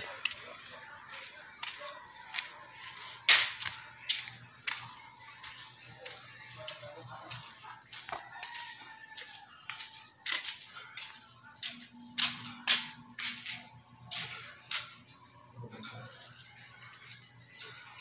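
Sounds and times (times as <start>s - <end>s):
footsteps scuffing on concrete: 0.0s - 15.2s.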